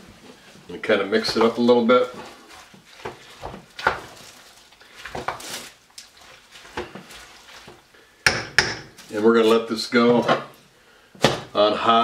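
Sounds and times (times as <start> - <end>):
wooden spoon stirring thick mixture: 0.0 - 10.3.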